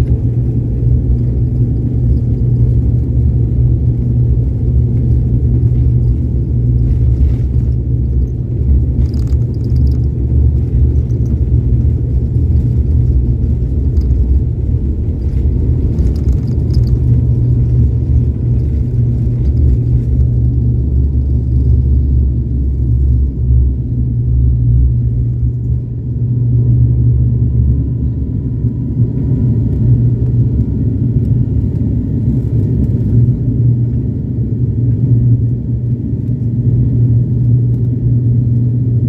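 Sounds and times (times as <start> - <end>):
airliner cabin engine rumble: 0.0 - 39.0.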